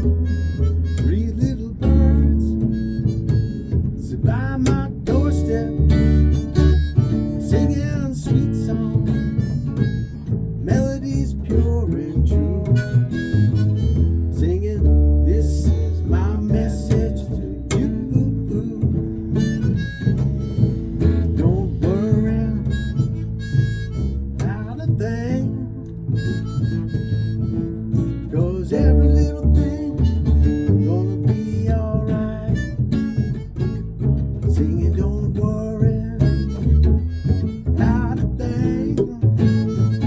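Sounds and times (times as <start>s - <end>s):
acoustic guitar accompaniment: 0.0s - 40.0s
harmonica melody with bent notes: 0.0s - 40.0s.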